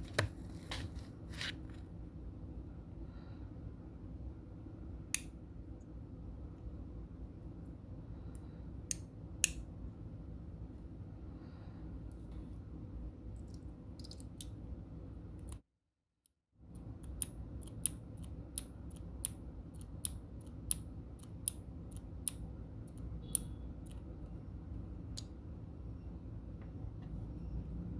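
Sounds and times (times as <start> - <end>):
low steady background noise: 0.0 - 15.6, 16.6 - 27.9.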